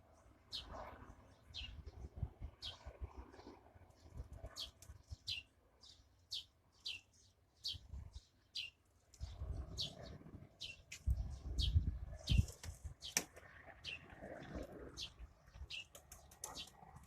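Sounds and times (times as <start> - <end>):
small bird chirping: 0.5 - 2.0, 4.0 - 14.2, 14.8 - 17.0.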